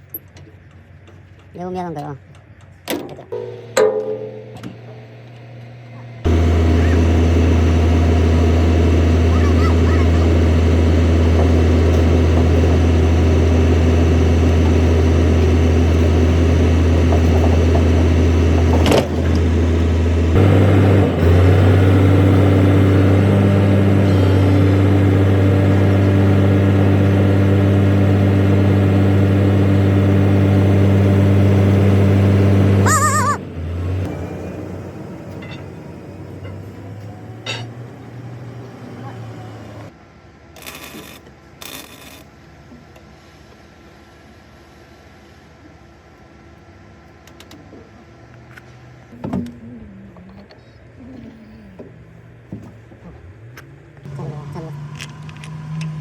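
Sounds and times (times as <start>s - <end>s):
large engine humming: 0.0s - 41.7s, 42.4s - 56.0s.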